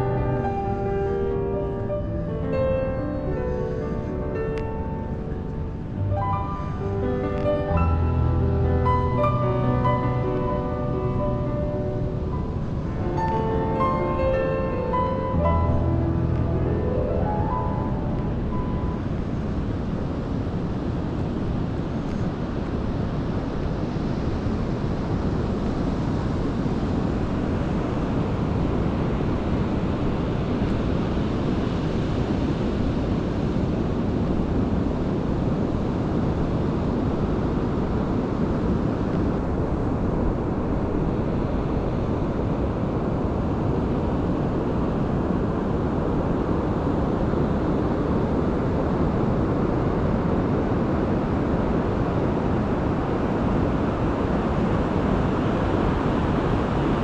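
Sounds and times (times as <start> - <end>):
ocean surf roaring: 0.0 - 57.0
wind buffeting microphone: 0.0 - 57.0.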